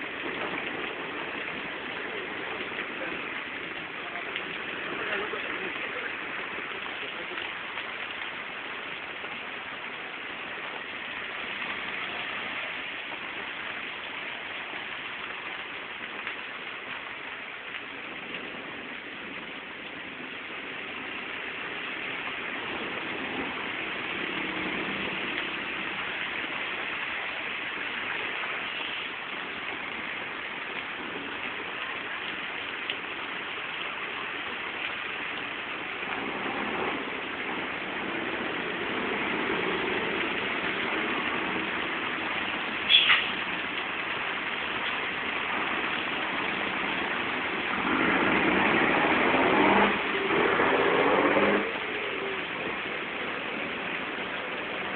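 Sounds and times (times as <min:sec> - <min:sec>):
heavy rain on surfaces: 0:00.0 - 0:54.9.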